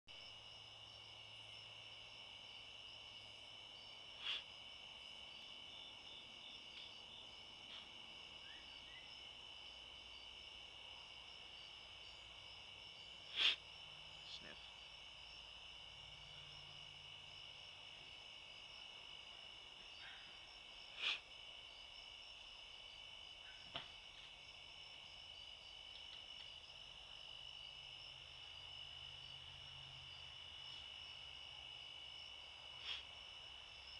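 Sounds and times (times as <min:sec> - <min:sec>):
crickets and insects chirping: 0:00.1 - 0:33.9.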